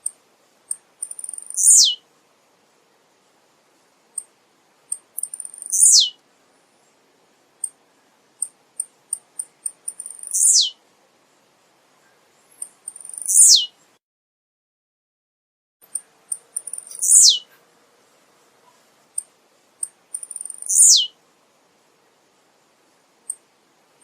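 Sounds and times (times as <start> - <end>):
bird singing high chips and buzzy song: 0.0 - 2.1, 2.9 - 14.0, 15.8 - 17.6, 18.4 - 21.2, 22.0 - 24.0.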